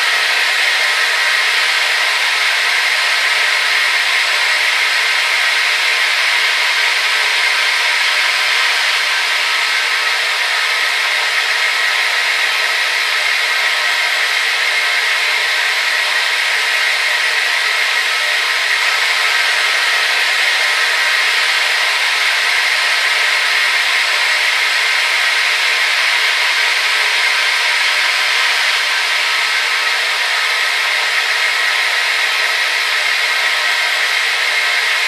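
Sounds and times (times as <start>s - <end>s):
hair dryer whirring: 0.0s - 35.0s.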